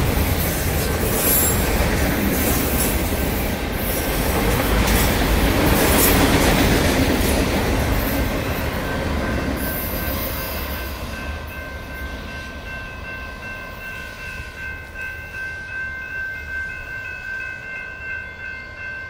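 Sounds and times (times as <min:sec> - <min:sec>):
crossing warning bell ringing: 0:00.0 - 0:19.0
freight train rolling past: 0:00.0 - 0:19.0.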